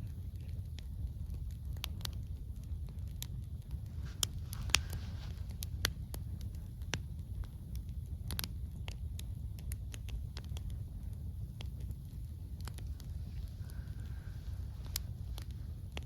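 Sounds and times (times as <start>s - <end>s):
campfire crackling: 0.0s - 16.0s
steady low rumble: 0.0s - 16.0s
sharp pops and snaps: 0.1s - 16.0s.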